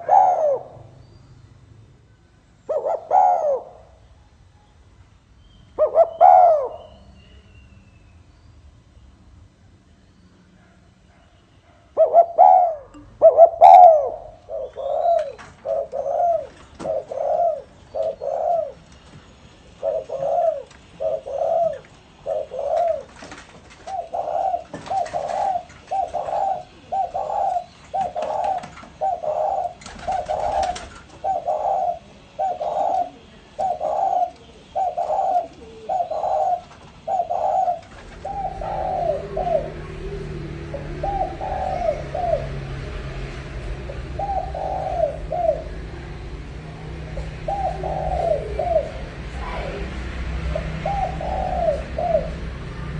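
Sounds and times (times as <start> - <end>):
dove cooing: 0.0 - 1.0, 2.7 - 4.1, 5.8 - 7.1, 11.6 - 52.9.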